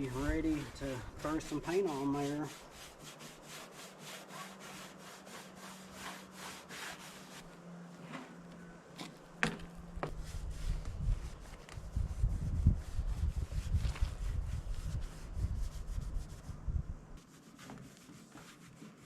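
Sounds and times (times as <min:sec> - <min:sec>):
scrubbing strokes on metal: 0:00.0 - 0:07.6, 0:09.9 - 0:16.6, 0:17.2 - 0:19.0.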